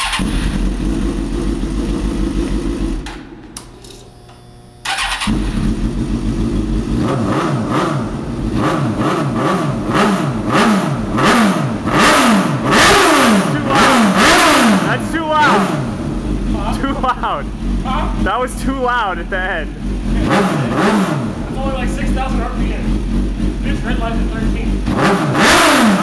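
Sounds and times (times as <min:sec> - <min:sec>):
motorcycle engine revving: 0:00.0 - 0:03.2, 0:04.8 - 0:26.0.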